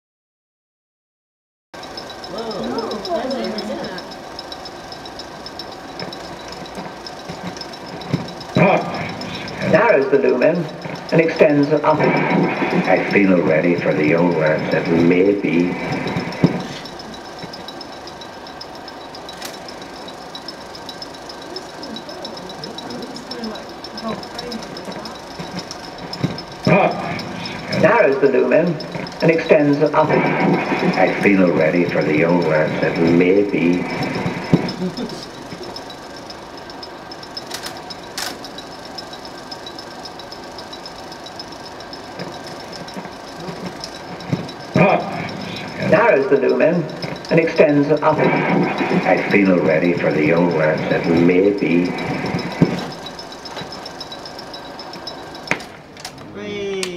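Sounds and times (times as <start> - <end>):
film projector ticking: 1.8 - 56.9
sharp click: 4.1 - 56.9.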